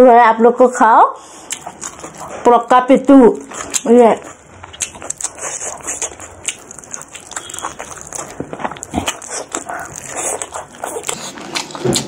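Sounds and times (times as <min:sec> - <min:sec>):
chewing and lip-smacking: 0:01.4 - 0:12.0.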